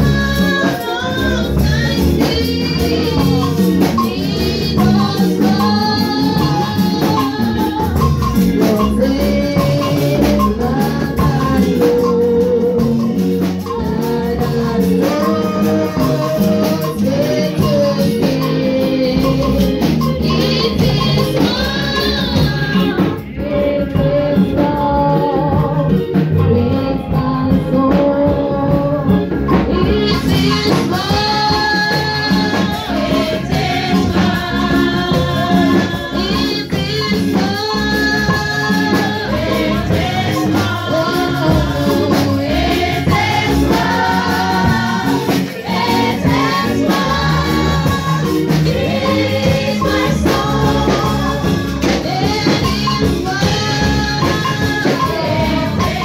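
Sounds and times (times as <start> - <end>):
women's choir singing gospel: 0.0 - 56.0.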